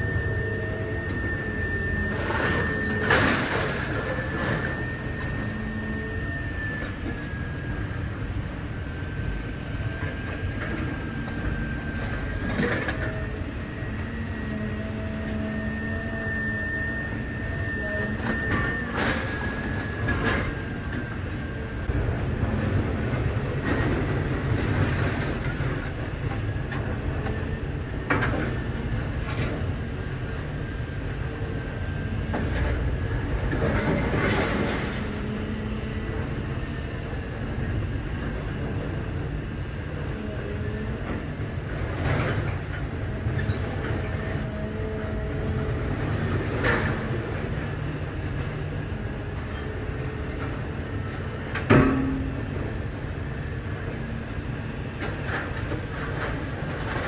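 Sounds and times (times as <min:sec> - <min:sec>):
faint machine whine: 0:00.0 - 0:57.0
heavy machine rumble: 0:00.0 - 0:57.0.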